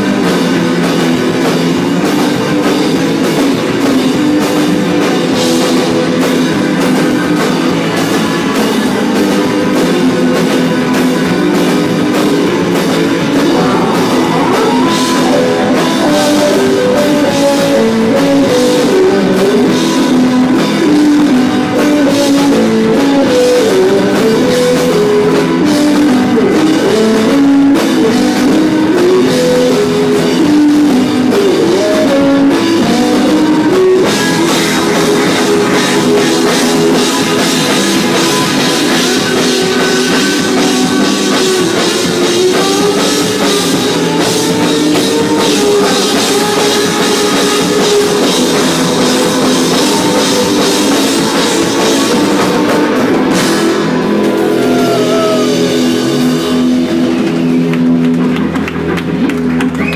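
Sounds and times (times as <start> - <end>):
drum kit: 0.0 - 59.9
loud electric guitar: 0.0 - 59.9.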